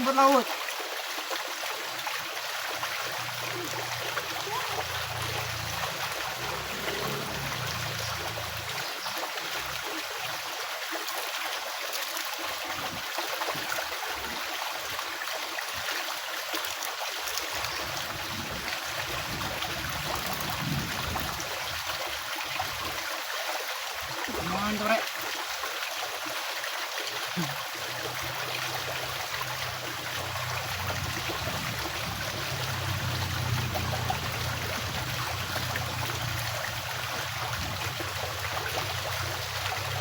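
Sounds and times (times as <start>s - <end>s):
stream water flowing: 0.0s - 40.0s.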